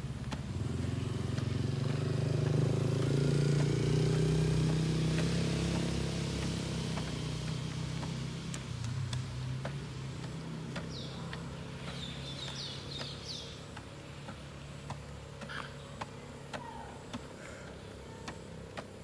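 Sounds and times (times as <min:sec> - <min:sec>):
sharp ticks: 0:01.2 - 0:19.0.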